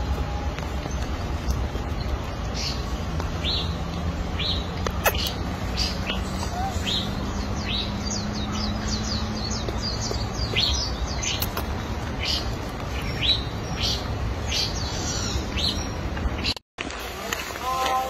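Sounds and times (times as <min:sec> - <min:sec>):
small birds chirping: 0:00.0 - 0:16.6
low outdoor background noise: 0:00.0 - 0:18.0.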